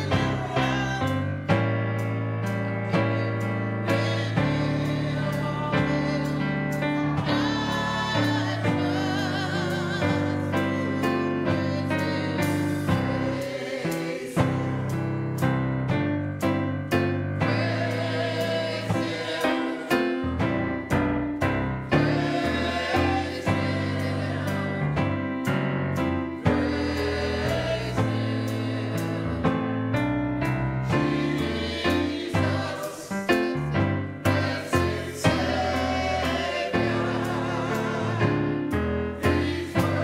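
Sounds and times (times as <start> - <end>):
drum kit: 0.0 - 40.0
gospel choir singing: 0.0 - 40.0
keyboard: 0.0 - 40.0.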